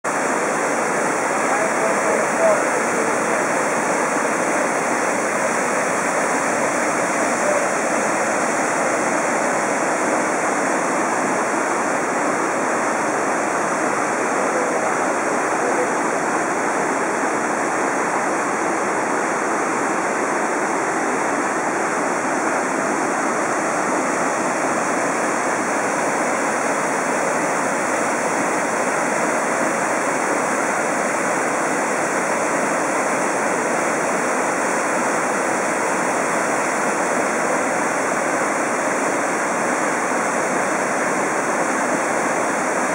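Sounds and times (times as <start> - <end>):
stream and waterfall rushing: 0.0 - 42.9.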